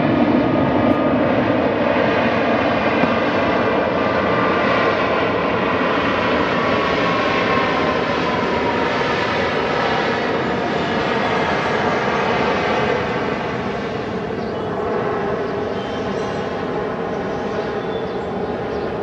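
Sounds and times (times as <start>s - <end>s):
jet engines rushing and whining: 0.0s - 19.0s.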